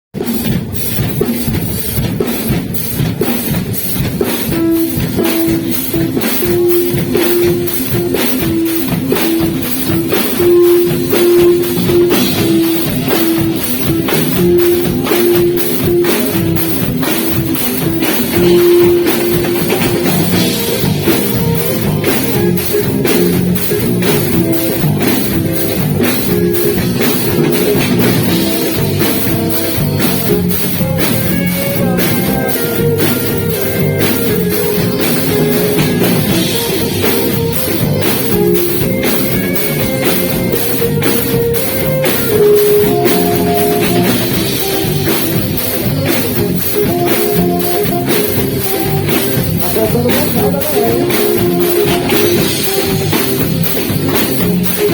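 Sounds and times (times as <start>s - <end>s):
drum kit beat: 0.0s - 54.9s
lead melody of held notes: 1.2s - 54.9s.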